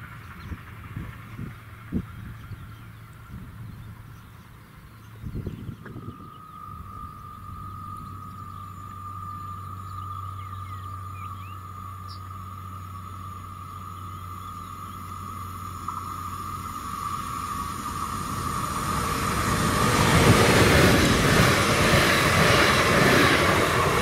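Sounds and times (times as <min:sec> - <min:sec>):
electric train running noise: 0:00.0 - 0:24.0
steady high whine: 0:00.0 - 0:24.0.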